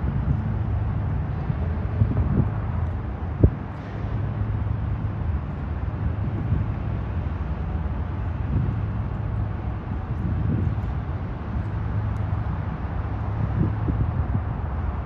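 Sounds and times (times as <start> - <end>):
boat diesel engines rumbling: 0.0 - 15.0.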